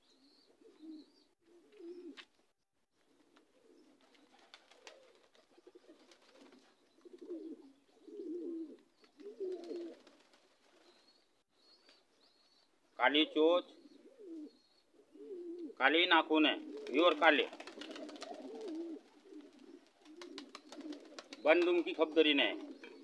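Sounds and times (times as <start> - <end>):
pigeons cooing: 0.0 - 2.2, 3.1 - 11.2, 13.2 - 23.0.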